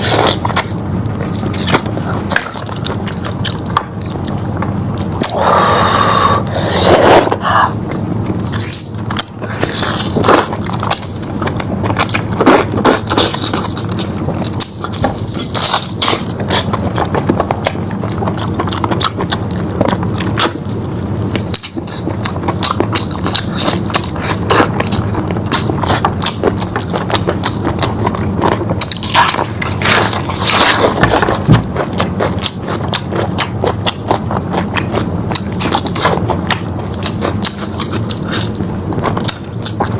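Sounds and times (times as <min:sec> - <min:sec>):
chewing and biting meat: 0:00.0 - 0:39.9
steady low hum: 0:00.0 - 0:39.9.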